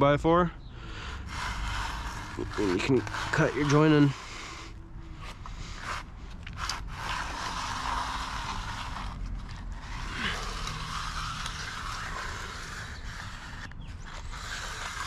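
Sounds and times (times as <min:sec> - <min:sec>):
groover scraping fresh concrete: 0:00.8 - 0:15.0.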